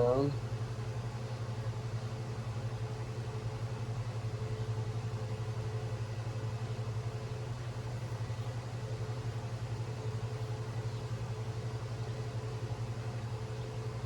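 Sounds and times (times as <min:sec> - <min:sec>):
low pulsing mechanical hum: 0:00.0 - 0:14.0.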